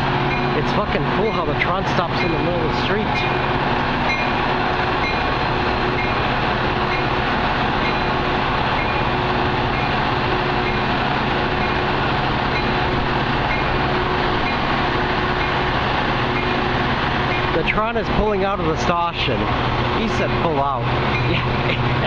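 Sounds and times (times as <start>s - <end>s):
diesel locomotive running: 0.0s - 22.0s.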